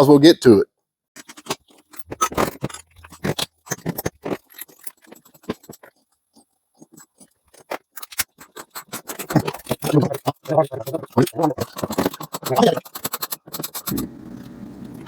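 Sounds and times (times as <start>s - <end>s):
tools and parts clicking and knocking: 1.2s - 14.0s.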